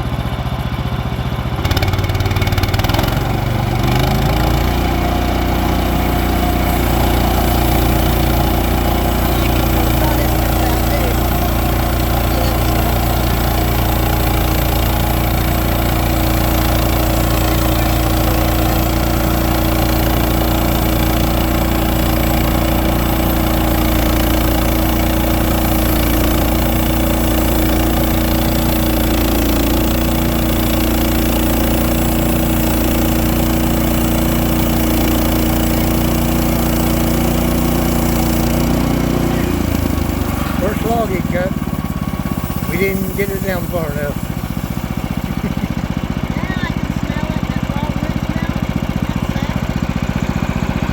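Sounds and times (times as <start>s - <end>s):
sawmill gas engine running: 0.0s - 50.9s.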